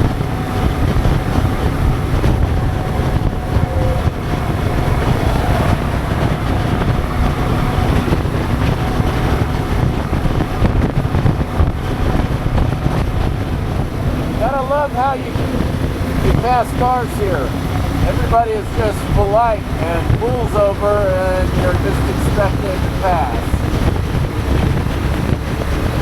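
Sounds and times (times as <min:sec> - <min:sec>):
motorcycle engine: 0:00.0 - 0:26.0
wind buffeting microphone: 0:00.0 - 0:26.0.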